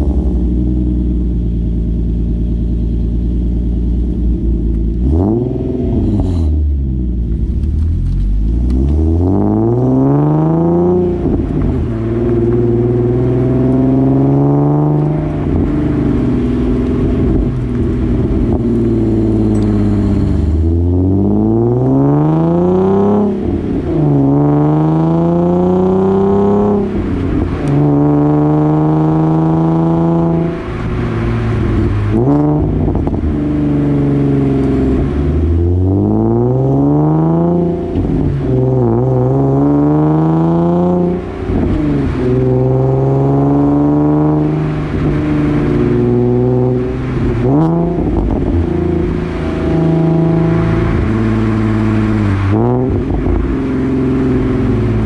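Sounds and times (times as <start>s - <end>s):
car exhaust accelerating through gears: 0.0s - 55.0s.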